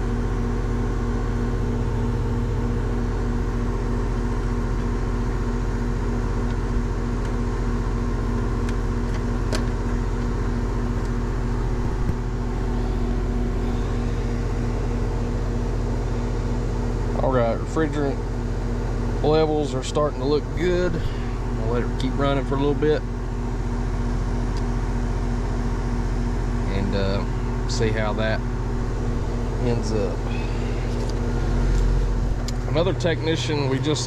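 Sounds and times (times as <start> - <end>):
heat pump humming: 0.0 - 34.0.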